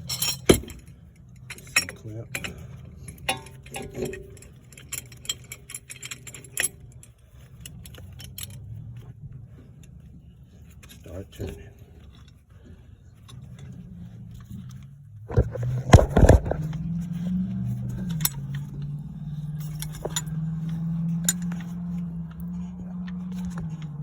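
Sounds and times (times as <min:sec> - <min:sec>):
metal clamp clanking: 0:00.0 - 0:08.8, 0:13.2 - 0:24.0
steady low hum: 0:00.0 - 0:24.0.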